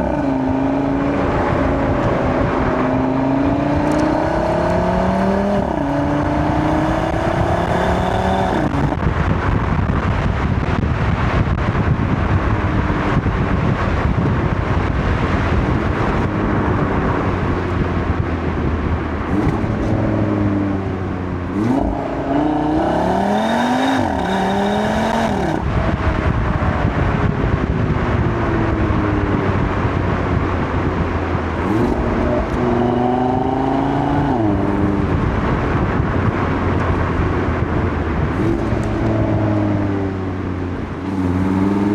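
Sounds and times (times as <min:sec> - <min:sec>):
car engine revving through gears: 0:00.0 - 0:11.6, 0:12.2 - 0:41.9.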